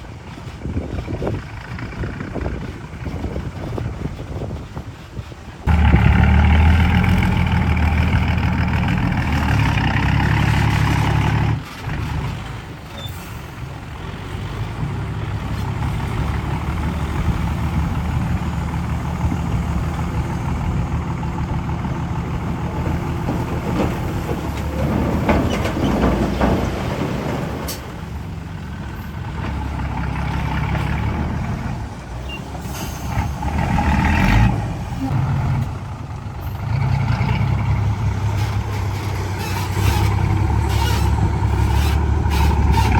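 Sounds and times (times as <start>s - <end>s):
diesel machinery engine: 0.0s - 42.9s.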